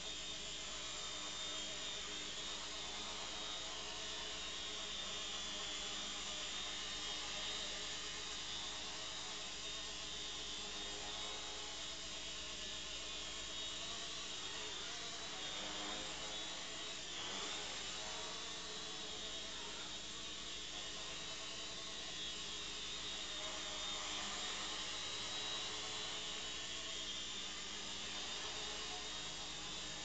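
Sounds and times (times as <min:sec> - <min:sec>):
rc helicopter rotor buzzing: 0:00.0 - 0:30.0.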